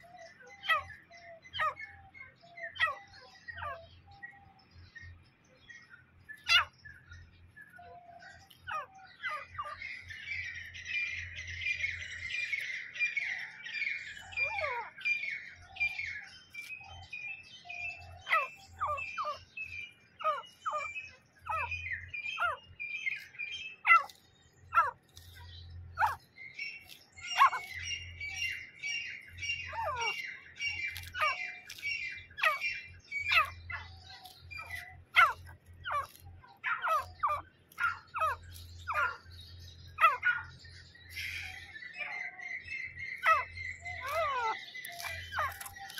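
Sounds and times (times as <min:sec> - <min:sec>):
francolins calling: 0:00.0 - 0:45.9.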